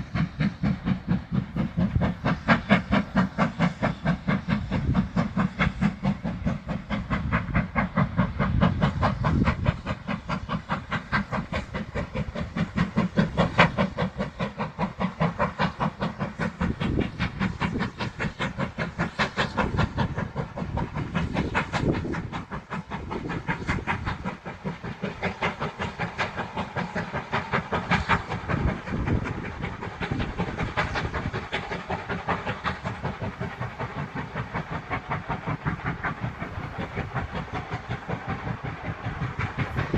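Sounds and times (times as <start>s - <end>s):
steam hissing: 0.0s - 39.9s
steam locomotive chuffing: 0.0s - 39.9s.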